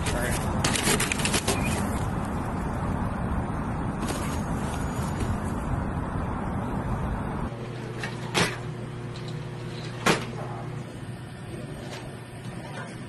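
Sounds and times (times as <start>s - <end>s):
low hum: 0.4s - 13.0s.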